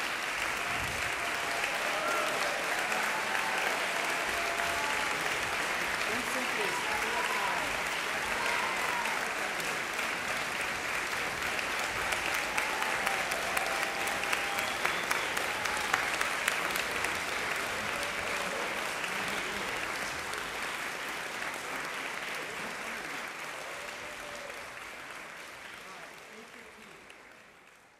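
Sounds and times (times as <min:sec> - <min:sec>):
audience applauding: 0:00.0 - 0:27.9.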